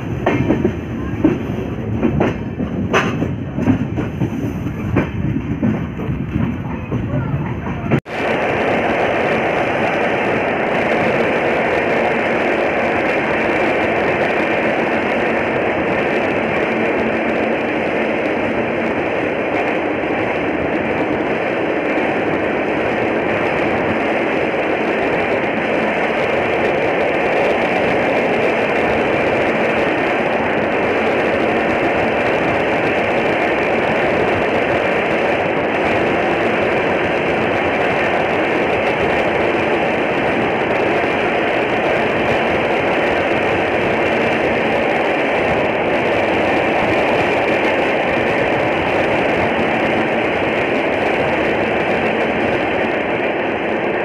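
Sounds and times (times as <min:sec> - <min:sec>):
train rushing through tunnel: 0:00.0 - 0:54.0.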